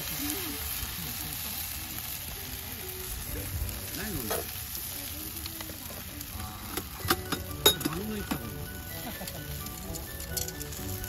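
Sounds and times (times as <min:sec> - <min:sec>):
pods sizzling in a skillet: 0:00.0 - 0:11.0.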